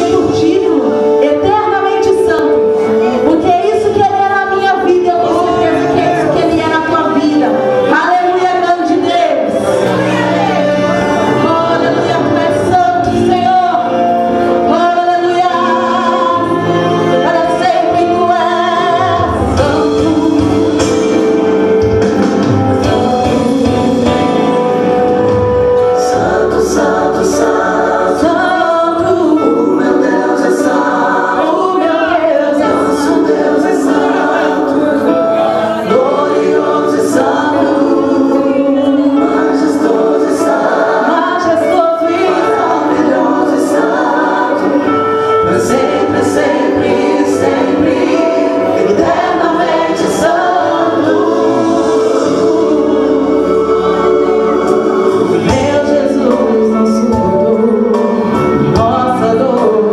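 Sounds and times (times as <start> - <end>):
musical accompaniment with cymbal beat: 9.5 - 59.9.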